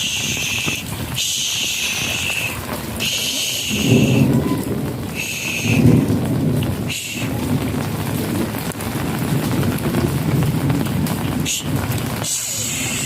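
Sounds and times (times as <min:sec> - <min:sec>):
heavy rain pouring: 0:00.0 - 0:13.0
thunder rumbling: 0:00.0 - 0:13.0.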